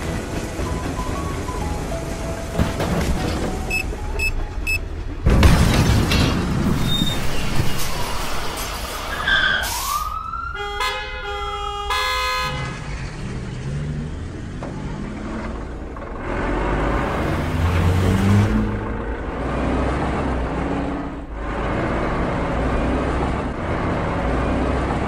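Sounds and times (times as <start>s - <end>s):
heavy engine running: 0.0s - 9.1s, 11.7s - 25.0s.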